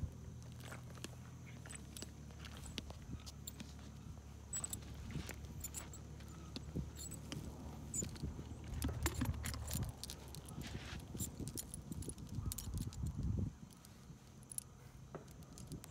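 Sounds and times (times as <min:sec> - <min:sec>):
bridle metal jingling: 0:00.3 - 0:15.9.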